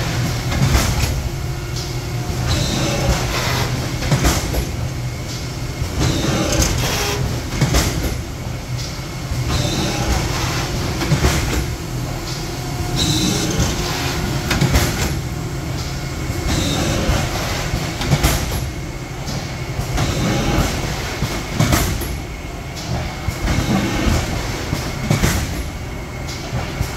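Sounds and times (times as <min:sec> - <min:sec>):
industrial machine running: 0:00.0 - 0:26.9.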